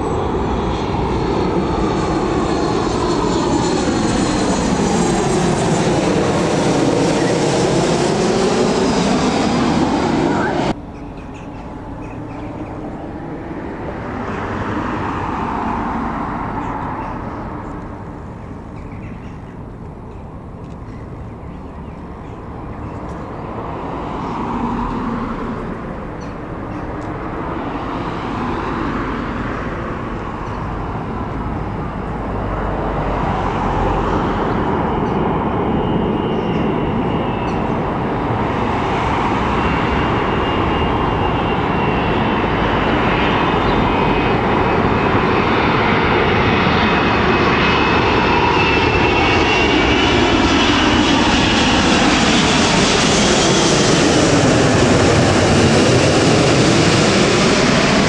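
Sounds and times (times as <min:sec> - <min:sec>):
airliner engines rushing: 0:00.0 - 0:58.0.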